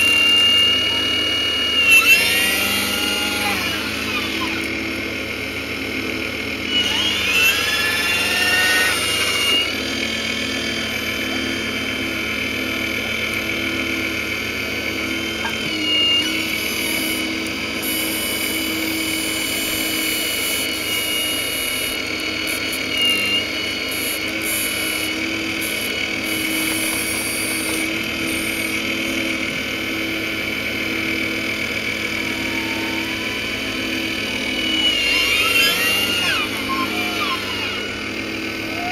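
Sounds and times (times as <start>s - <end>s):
toy excavator motors whining: 0.0s - 38.9s.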